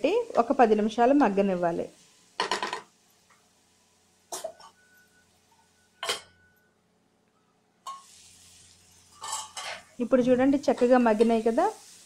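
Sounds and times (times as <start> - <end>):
vegetables sizzling frying: 0.0 - 5.8, 7.8 - 12.0.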